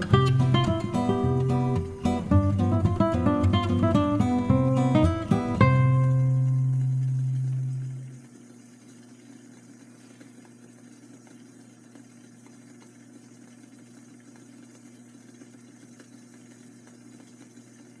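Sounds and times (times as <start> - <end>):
kitchen equipment humming: 0.0 - 18.0.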